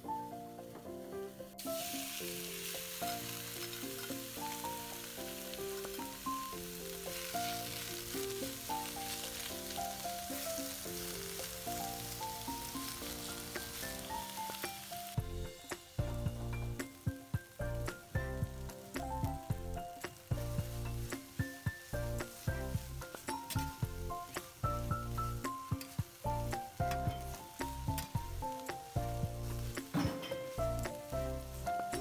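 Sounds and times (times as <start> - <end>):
meat sizzling in a skillet: 1.6 - 32.0
spatula stirring in a skillet: 1.6 - 32.0.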